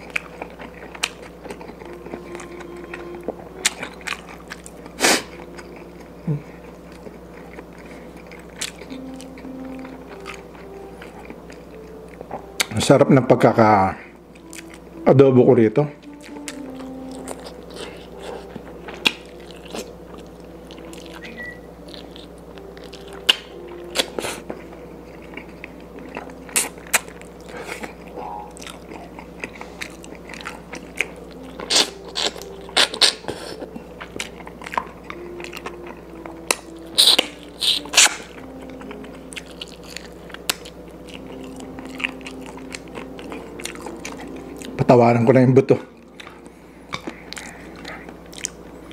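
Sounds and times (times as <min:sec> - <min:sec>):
person chewing with wet smacks: 0:00.0 - 0:12.8, 0:16.1 - 0:44.9, 0:45.7 - 0:48.9.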